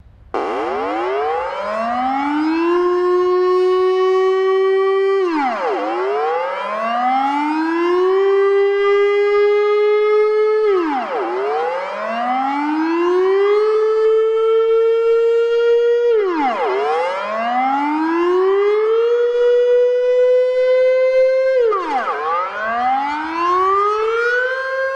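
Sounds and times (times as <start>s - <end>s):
wailing warning siren: 0.3s - 24.9s.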